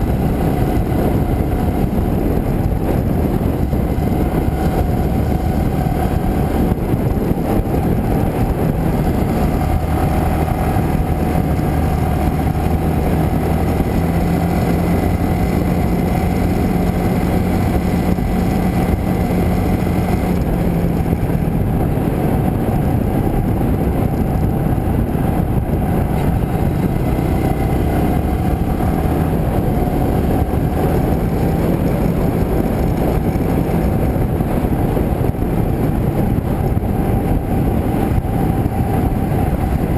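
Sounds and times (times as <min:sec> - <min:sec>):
motorcycle engine drone: 0:00.0 - 0:39.9
wind rush: 0:00.0 - 0:39.9.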